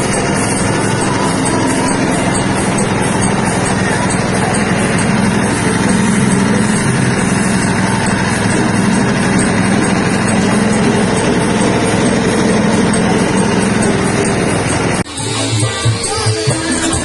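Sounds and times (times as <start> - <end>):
machine humming and rattling: 0.0 - 17.0.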